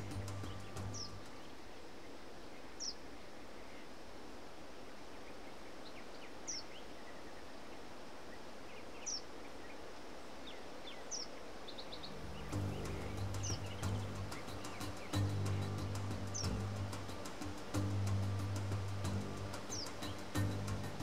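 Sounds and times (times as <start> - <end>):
faint bird chirps: 0.0 - 4.0, 4.8 - 21.0
background hiss: 0.0 - 21.0.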